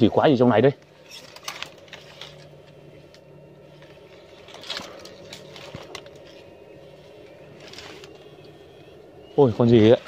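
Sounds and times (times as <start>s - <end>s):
faint steady low hum: 0.0s - 10.0s
dry reed stems rustling: 0.8s - 10.0s.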